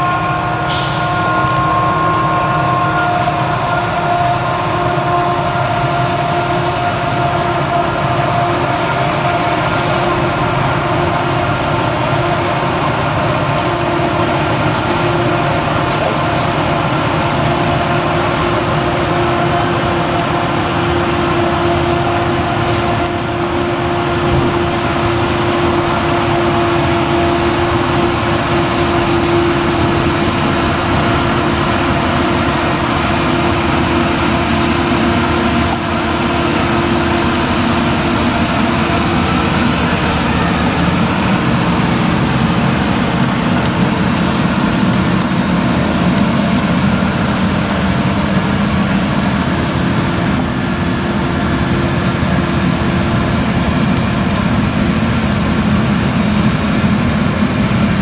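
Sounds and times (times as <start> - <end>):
harvester engine drone: 0.0 - 58.0
tractor engine: 0.0 - 58.0.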